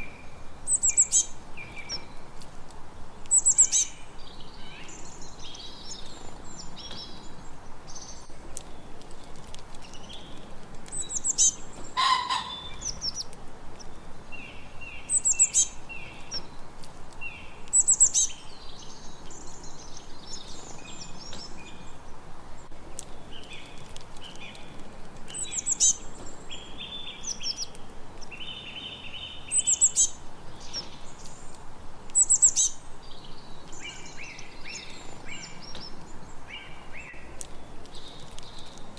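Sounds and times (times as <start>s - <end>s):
faint steady hiss: 0.0s - 38.9s
songbirds singing: 0.0s - 38.9s.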